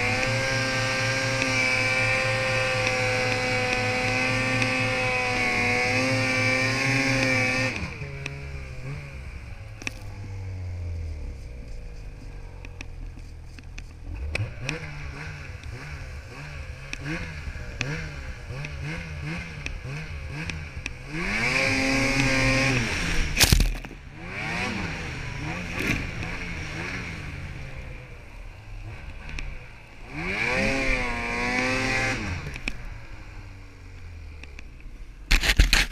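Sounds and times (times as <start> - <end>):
snowmobile engine revving: 0.0 - 35.9.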